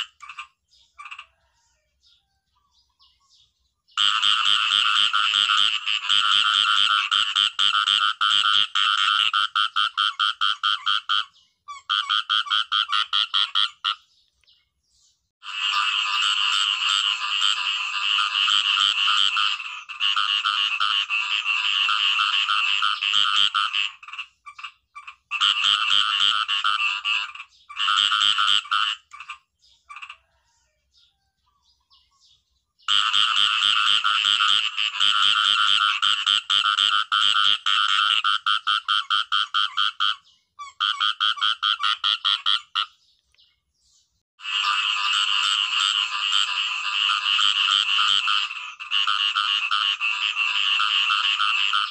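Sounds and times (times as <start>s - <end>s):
frogs croaking in rapid pulses: 0.0s - 1.6s, 4.0s - 14.0s, 15.4s - 30.5s, 32.9s - 43.0s, 44.4s - 51.9s.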